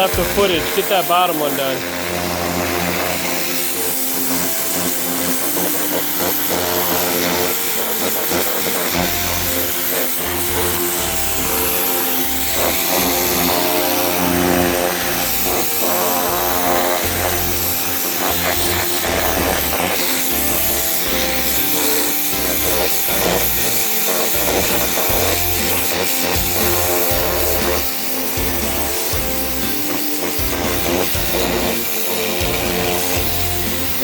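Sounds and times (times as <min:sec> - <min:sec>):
background music: 0:00.0 - 0:34.0
pressure washer motor humming: 0:00.0 - 0:34.0
water jet hissing: 0:00.0 - 0:34.0.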